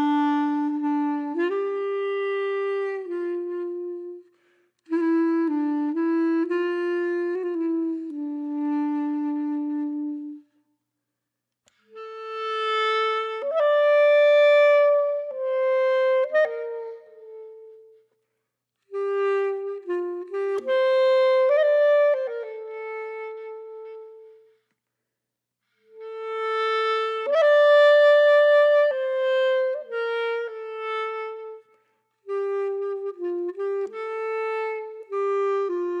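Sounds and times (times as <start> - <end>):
solo woodwind melody: 0.0 - 10.8, 11.7 - 25.0, 25.6 - 36.0.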